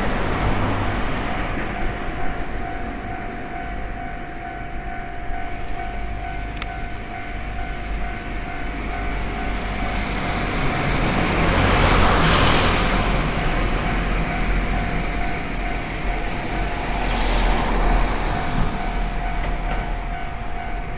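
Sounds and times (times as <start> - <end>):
level-crossing warning bell: 0.0 - 20.9
train passing: 0.0 - 20.9.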